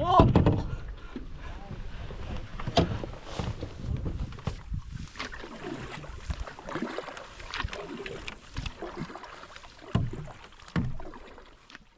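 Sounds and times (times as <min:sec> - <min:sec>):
canoe knocks: 0:00.0 - 0:00.8, 0:01.7 - 0:11.5
paddle splashing water: 0:00.1 - 0:11.9.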